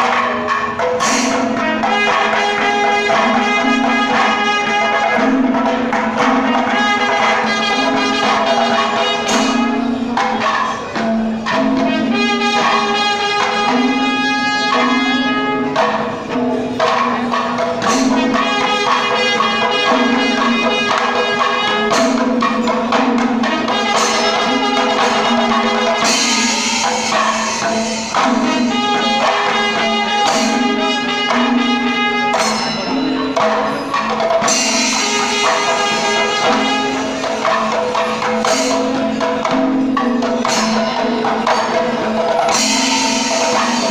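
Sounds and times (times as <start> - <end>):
brass cymbals clashing: 0.0 - 43.9
drums: 0.0 - 43.9.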